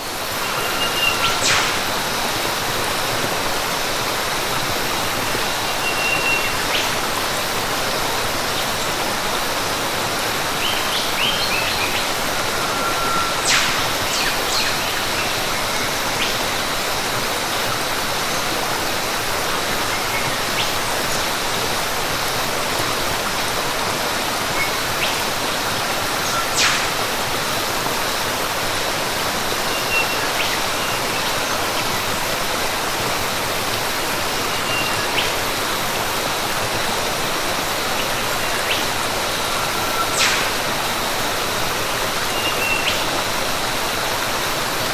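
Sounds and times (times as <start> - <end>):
falling water rushing: 0.0 - 44.9.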